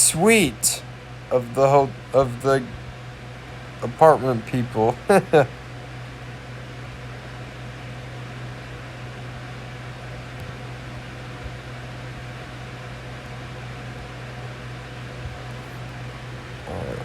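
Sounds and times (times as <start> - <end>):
fan or motor humming: 0.0 - 17.0.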